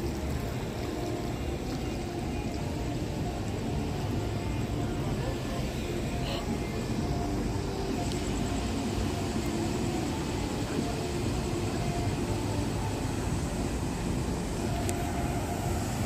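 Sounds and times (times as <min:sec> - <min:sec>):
low rumble of city street: 0:00.0 - 0:16.0.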